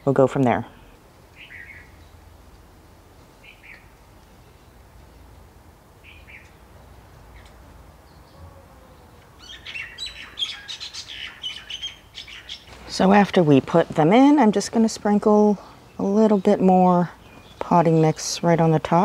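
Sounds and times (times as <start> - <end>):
birds chirping: 0.0 - 2.4, 3.1 - 19.0.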